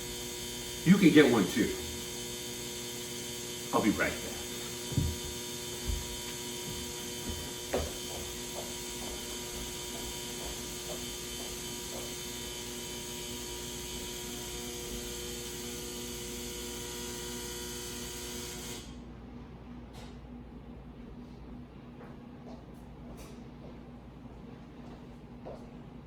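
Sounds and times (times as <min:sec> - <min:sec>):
electrical hum and whine: 0:00.0 - 0:26.0.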